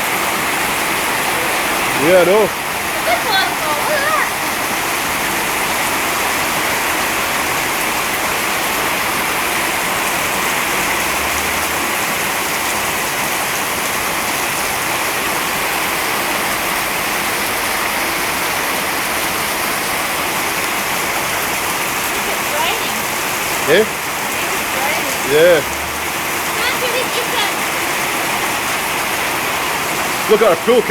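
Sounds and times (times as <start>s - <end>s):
heavy rain pouring: 0.0s - 30.9s
runoff water splashing: 0.0s - 30.9s.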